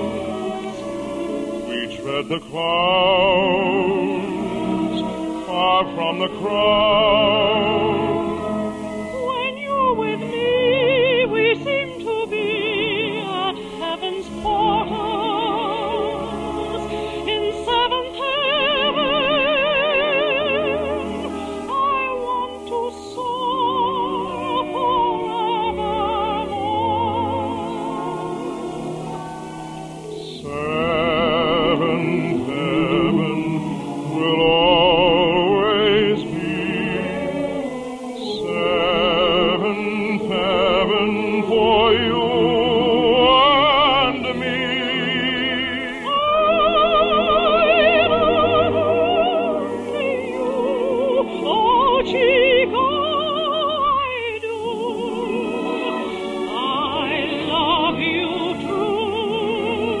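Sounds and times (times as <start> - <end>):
operatic singing with vibrato: 0.0 - 60.0
orchestra playing: 0.0 - 60.0.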